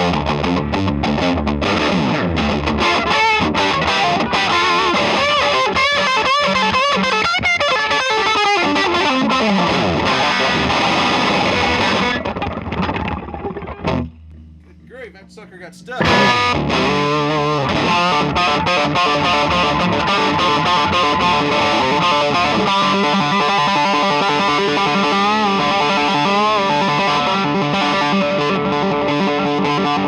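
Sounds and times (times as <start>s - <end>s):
overdriven electric guitar: 0.0s - 14.6s, 16.0s - 30.0s.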